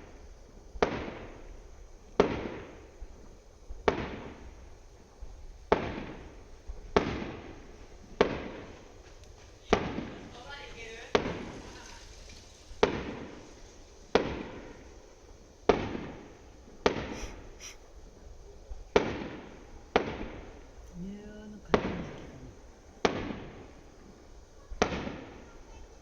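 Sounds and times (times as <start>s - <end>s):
fireworks bursting with echo: 0.0s - 26.0s.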